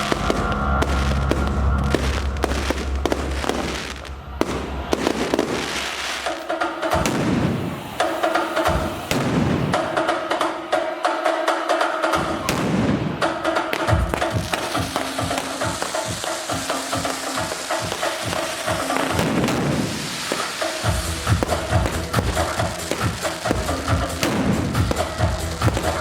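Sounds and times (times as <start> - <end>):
fireworks banging and crackling: 0.0 - 26.0
loud music with steady beat: 0.0 - 26.0.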